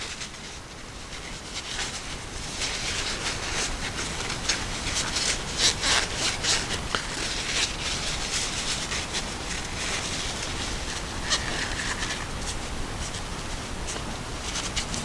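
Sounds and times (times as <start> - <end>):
scratchy rubbing strokes: 0.0 - 15.0.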